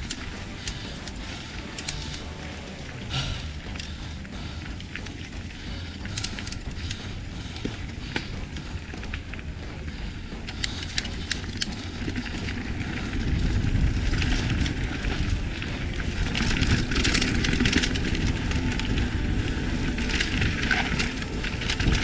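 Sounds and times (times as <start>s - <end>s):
crackles and clicks: 0.0s - 22.0s
low rumble: 0.0s - 22.0s
wind rushing over microphone: 0.0s - 22.0s.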